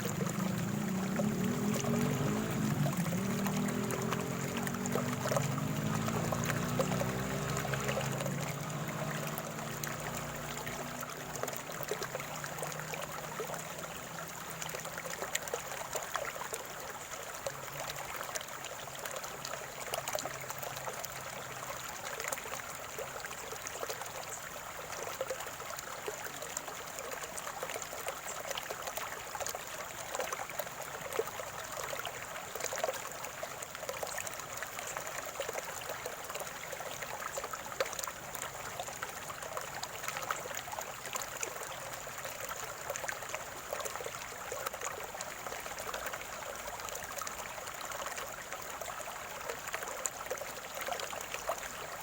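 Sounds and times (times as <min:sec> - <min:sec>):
water trickling and gurgling: 0:00.0 - 0:52.0.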